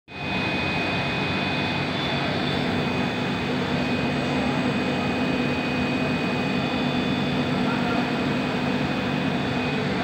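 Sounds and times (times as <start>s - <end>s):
high machine whine: 0.1s - 10.0s
machinery whirring: 0.1s - 10.0s.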